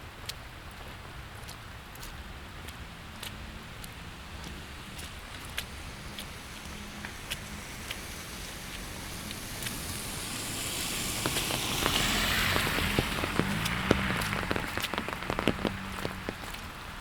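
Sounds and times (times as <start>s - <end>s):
raindrops ticking close by: 0.0s - 17.0s
steady rain: 0.0s - 17.0s
car tyres hissing on wet road: 1.6s - 17.0s.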